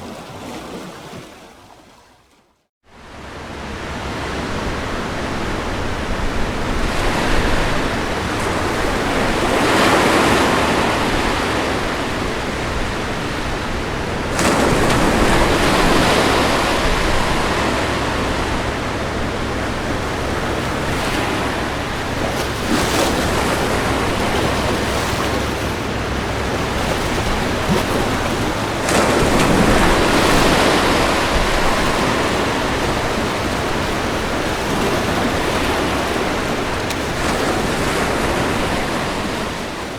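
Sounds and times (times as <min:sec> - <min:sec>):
ocean waves breaking on beach: 0:00.0 - 0:02.1, 0:02.9 - 0:39.9.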